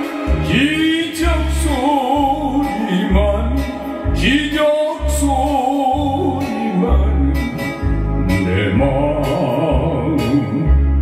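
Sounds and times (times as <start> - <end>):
backing track with bass beat: 0.0 - 11.0
man singing: 0.0 - 11.0.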